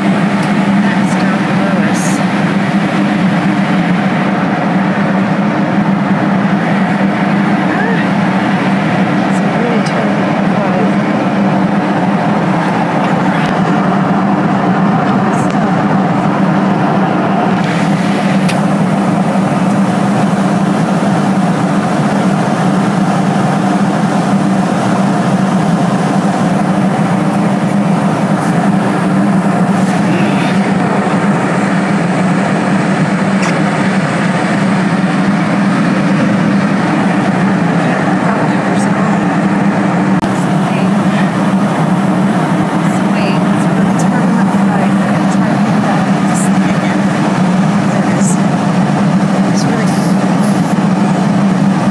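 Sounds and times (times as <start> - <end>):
airliner engines droning: 0.0 - 51.9
rushing air in cabin: 0.0 - 51.9.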